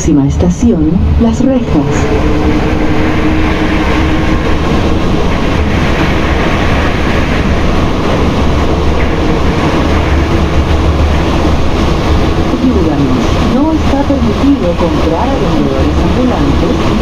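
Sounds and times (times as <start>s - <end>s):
metro train rumble and hiss: 0.0s - 17.0s.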